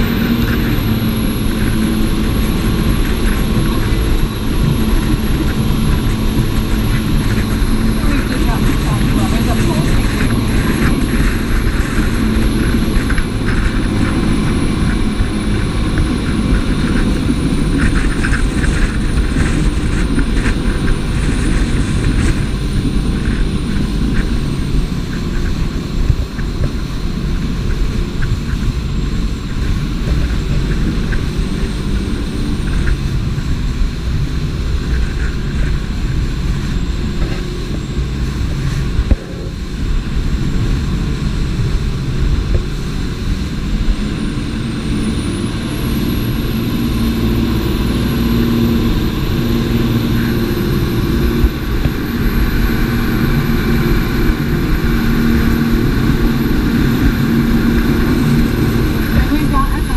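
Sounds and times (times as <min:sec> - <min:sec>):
boat engine drone: 0:00.0 - 0:59.9
water and wind noise: 0:00.0 - 0:59.9.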